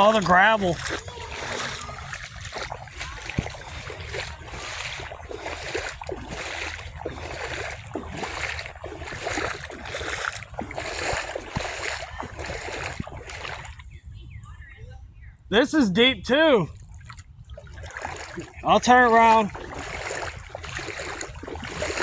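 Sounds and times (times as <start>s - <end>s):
footsteps splashing in water: 0.0s - 13.9s, 16.7s - 22.0s
wind rumble on microphone: 0.0s - 15.6s, 16.6s - 22.0s.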